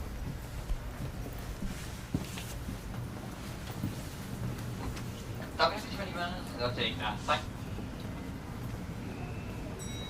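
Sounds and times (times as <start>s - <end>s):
train equipment humming: 0.0s - 10.0s.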